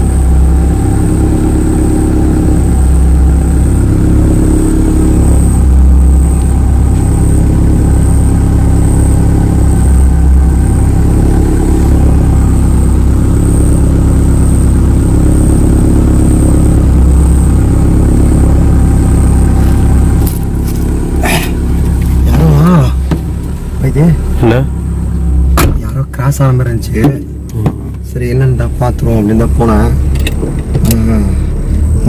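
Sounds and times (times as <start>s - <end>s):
loud engine-like hum: 0.0s - 32.0s.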